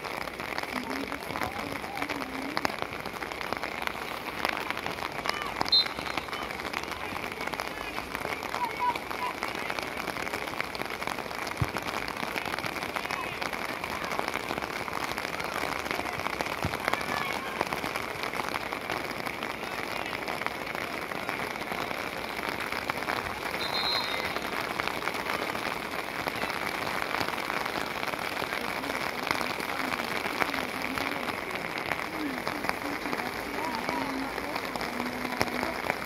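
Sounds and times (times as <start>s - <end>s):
rain pattering on an umbrella: 0.0s - 36.0s.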